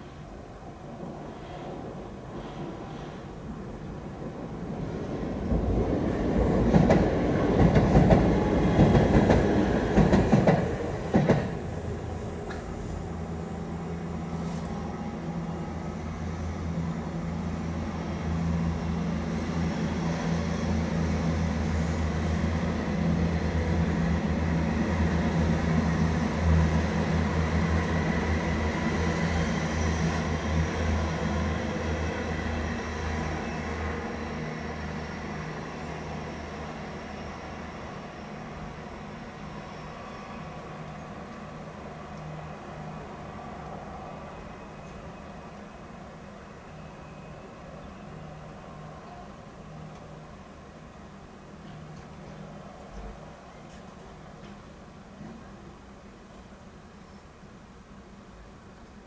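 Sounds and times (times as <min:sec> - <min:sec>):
electric train humming: 0:00.0 - 0:59.0.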